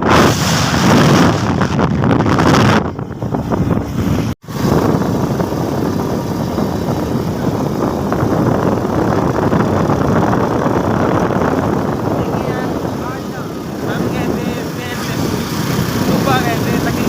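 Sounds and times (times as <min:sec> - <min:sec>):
rushing wind: 0:00.0 - 0:17.0
motorcycle engine: 0:01.0 - 0:17.0.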